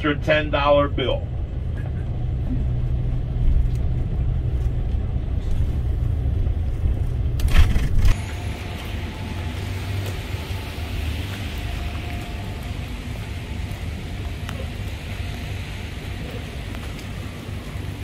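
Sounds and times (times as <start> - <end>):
vehicle road and engine rumble: 0.0 - 18.0.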